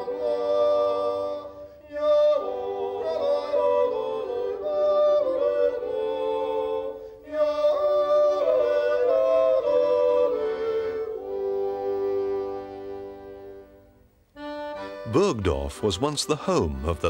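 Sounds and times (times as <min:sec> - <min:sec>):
slow music of held notes: 0:00.0 - 0:17.0.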